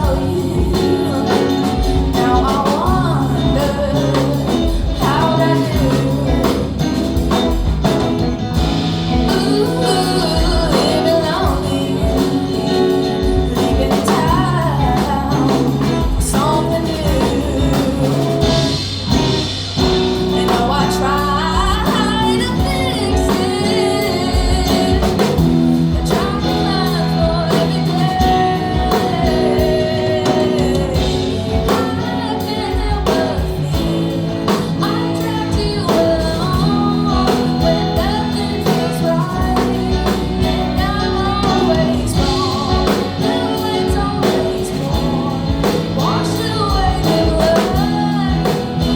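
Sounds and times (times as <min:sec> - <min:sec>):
drums: 0:00.0 - 0:48.9
guitar: 0:00.0 - 0:48.9
person singing: 0:00.0 - 0:48.9.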